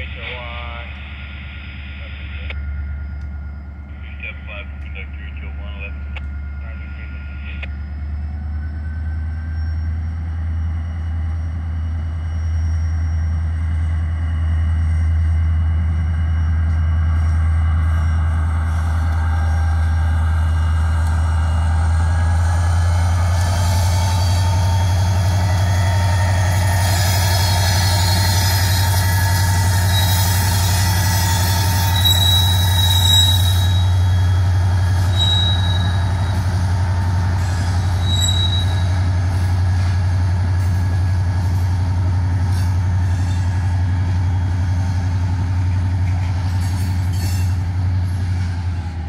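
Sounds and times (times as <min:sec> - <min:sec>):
diesel locomotive engine humming: 0:00.0 - 0:49.0.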